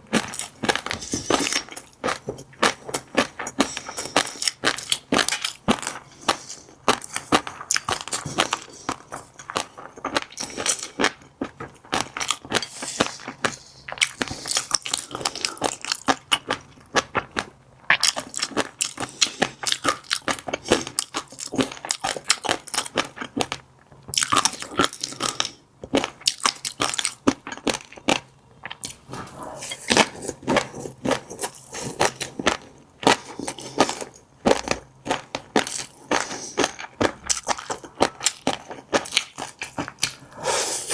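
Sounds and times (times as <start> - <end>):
chewing crunchy fish roe: 0.0 - 40.9.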